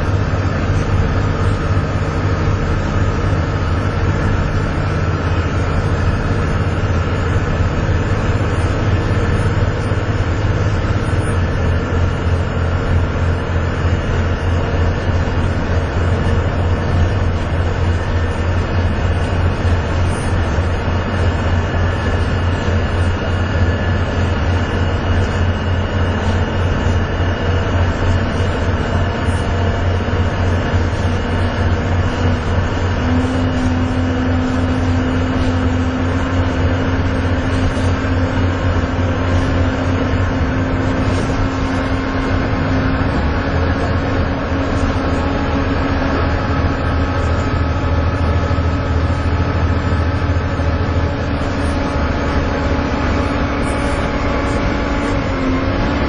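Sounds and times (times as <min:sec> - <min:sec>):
bus engine droning under load: 0:00.0 - 0:56.0
high whine of bus engine: 0:00.0 - 0:56.0.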